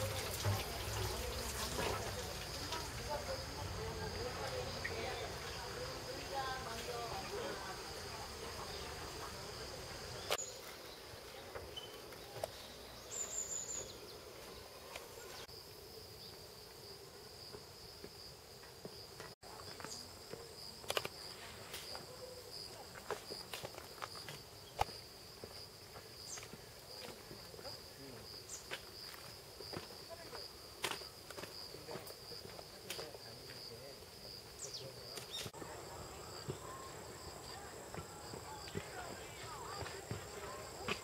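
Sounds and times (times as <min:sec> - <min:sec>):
insect chorus: 0:00.0 - 0:41.0.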